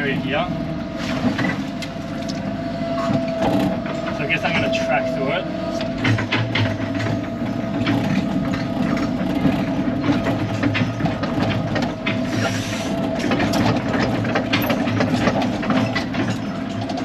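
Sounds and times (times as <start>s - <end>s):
diesel engine running: 0.0s - 17.0s
steel tracks clanking: 2.8s - 17.0s.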